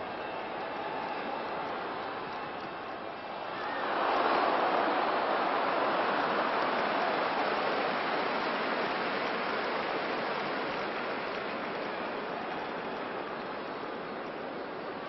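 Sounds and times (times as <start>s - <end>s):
stadium crowd noise: 0.0s - 15.0s.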